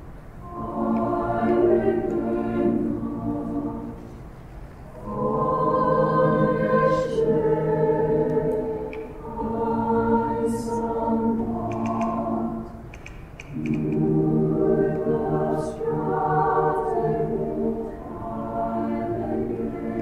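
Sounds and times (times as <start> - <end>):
choir singing a carol: 0.0 - 20.0.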